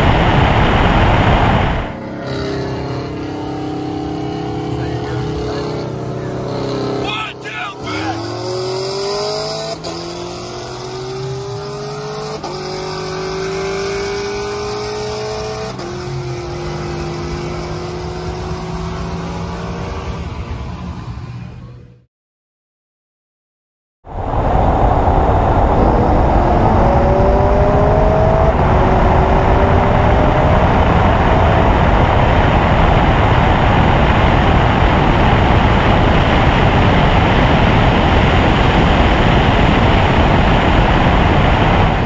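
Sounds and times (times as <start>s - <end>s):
car engine at full throttle: 0.0s - 22.0s, 24.1s - 42.0s
wind and road noise: 0.0s - 22.1s, 24.0s - 42.0s.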